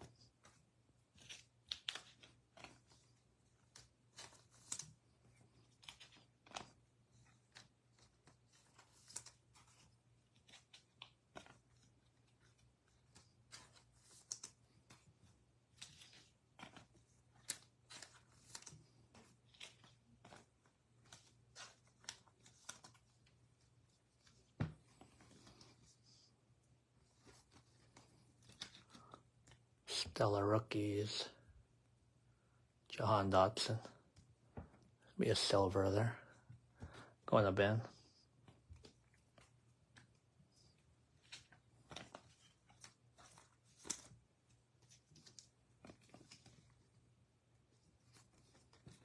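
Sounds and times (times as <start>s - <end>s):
plastic sleeves rustling: 0.0s - 49.0s.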